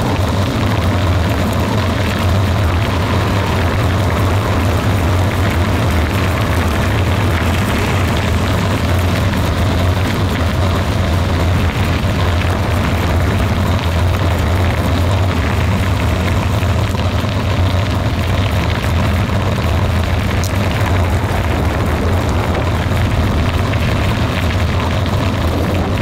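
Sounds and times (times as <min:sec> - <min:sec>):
vehicle driving on gravel: 0:00.0 - 0:26.0.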